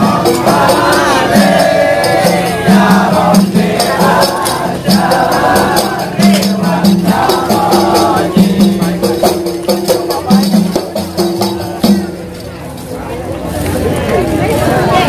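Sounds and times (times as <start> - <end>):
voices chanting together: 0.0 - 12.4
frame drums beating: 0.0 - 13.0
jingling percussion: 0.0 - 13.9.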